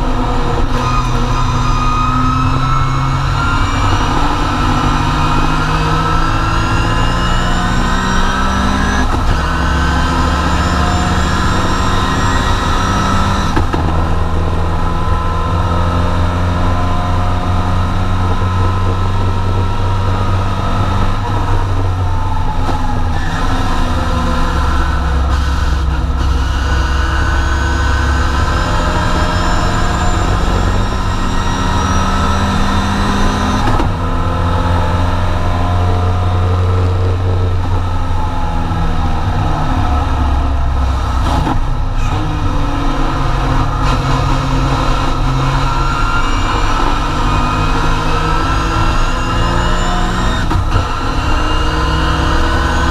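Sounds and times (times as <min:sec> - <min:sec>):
race car engine at full throttle: 0:00.0 - 0:52.9.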